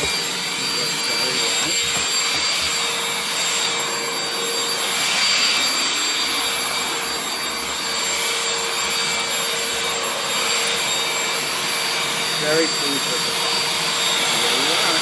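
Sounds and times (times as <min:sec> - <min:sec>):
handheld vacuum running: 0:00.0 - 0:15.0.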